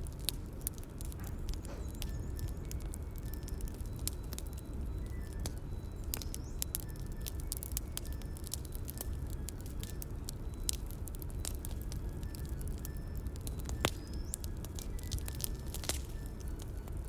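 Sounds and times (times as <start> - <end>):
low rumble of flames: 0.0 - 17.0
wood crackling and popping: 0.0 - 17.0
faint high whistles: 1.2 - 17.0.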